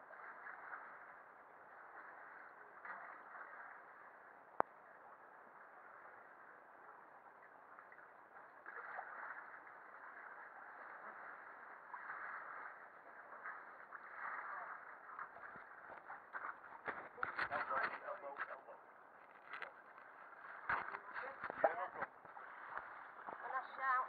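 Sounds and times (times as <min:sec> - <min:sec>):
water lapping around a canoe: 0:00.0 - 0:24.0.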